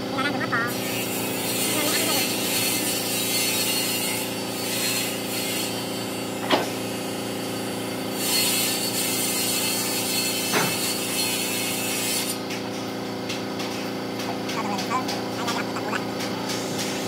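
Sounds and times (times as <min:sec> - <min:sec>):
power tool humming: 0:00.0 - 0:17.0.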